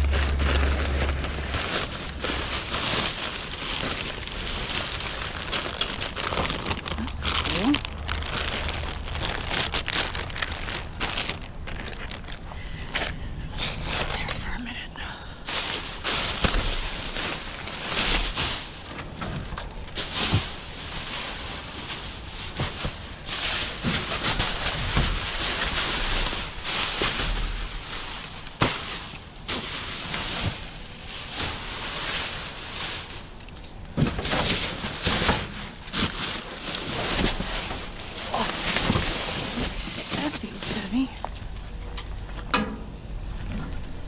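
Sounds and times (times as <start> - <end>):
plastic bags rustling: 0.0 - 14.7, 15.4 - 42.3.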